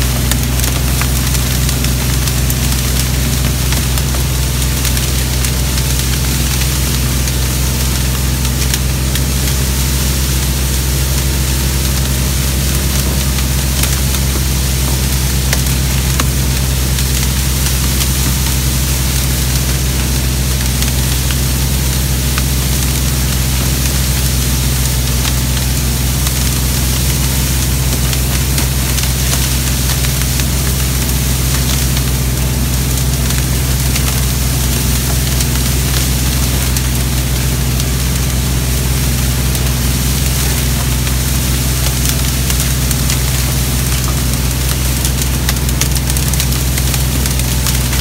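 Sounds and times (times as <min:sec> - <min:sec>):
brush mower engines cutting reeds: 0:00.0 - 0:48.0.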